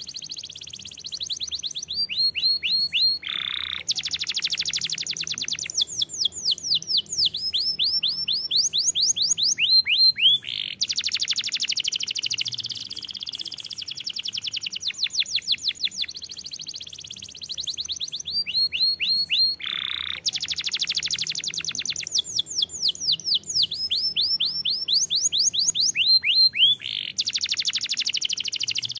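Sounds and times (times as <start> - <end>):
canary singing rapid trills: 0.0 - 28.9.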